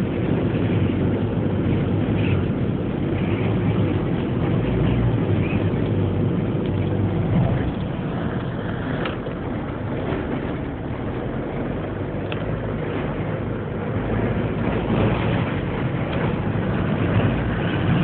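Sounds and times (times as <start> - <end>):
gale-force wind rumbling: 0.0 - 18.0
vehicle noise: 0.0 - 18.0.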